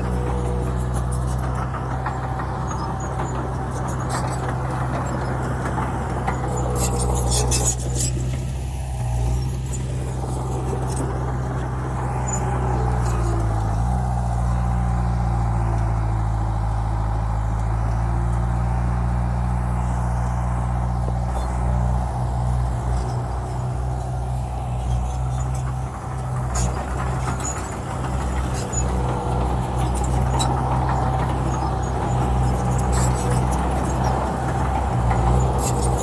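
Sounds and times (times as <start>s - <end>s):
rattling clatter: 0.0s - 14.0s, 21.2s - 36.0s
heavy diesel engine running: 0.0s - 36.0s.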